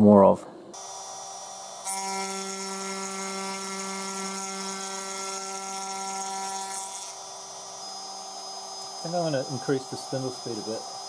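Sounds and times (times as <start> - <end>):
router spindle whine: 0.8 - 11.0.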